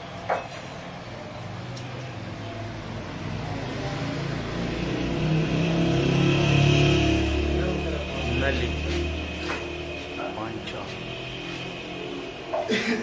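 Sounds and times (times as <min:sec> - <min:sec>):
vehicle engine approaching: 0:01.2 - 0:12.6.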